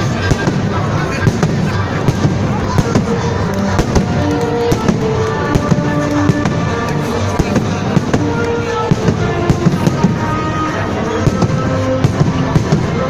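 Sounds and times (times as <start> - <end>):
firework bangs and crackles: 0.0 - 13.0
music playing: 0.0 - 13.0.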